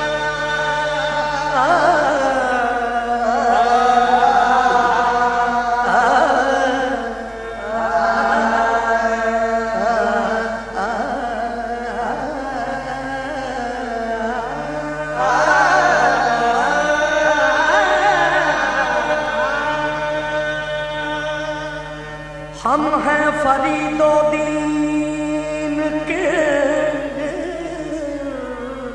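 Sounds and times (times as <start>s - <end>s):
qawwali music: 0.0s - 28.9s.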